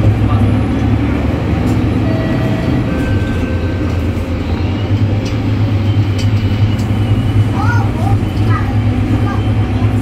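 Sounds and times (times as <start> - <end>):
bus engine drone: 0.0 - 10.0
road rumble: 0.0 - 10.0.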